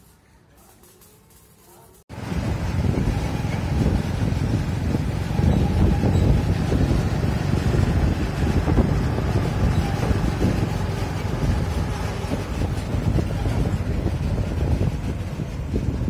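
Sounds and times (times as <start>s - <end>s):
truck engine and road noise: 2.1s - 16.0s
wind buffeting microphone: 2.1s - 16.0s.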